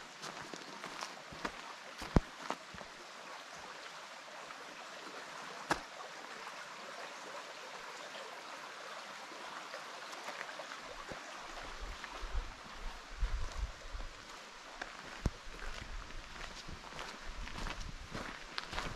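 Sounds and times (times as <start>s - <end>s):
brook flowing: 0.0s - 18.9s.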